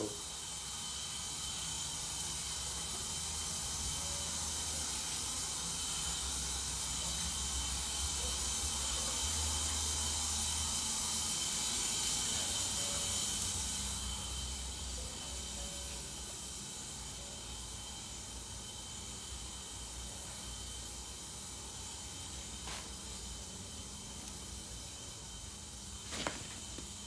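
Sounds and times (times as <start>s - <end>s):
room noise hiss: 0.0s - 27.0s.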